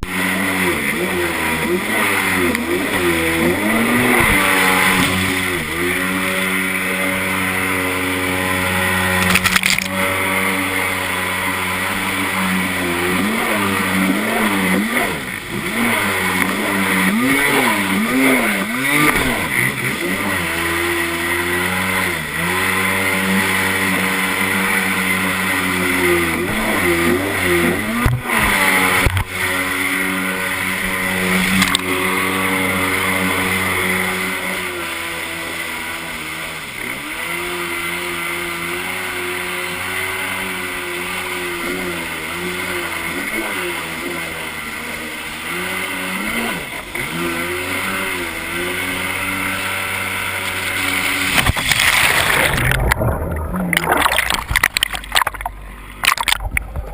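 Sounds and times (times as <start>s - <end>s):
jet ski engine running: 0.0s - 56.9s.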